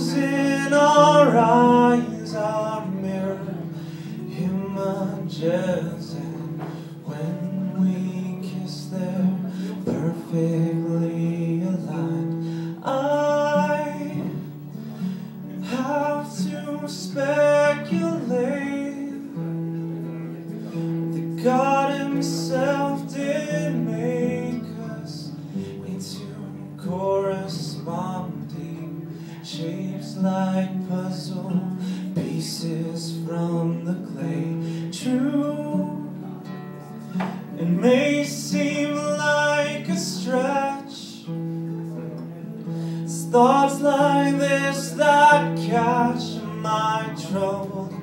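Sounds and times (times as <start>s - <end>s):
acoustic guitar: 0.0s - 48.0s
man singing: 0.0s - 48.0s.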